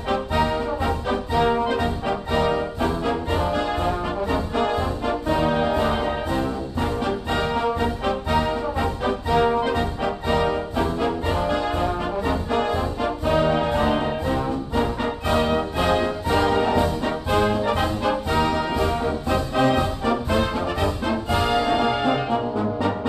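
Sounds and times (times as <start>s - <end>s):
orchestral music led by brass: 0.0s - 23.0s.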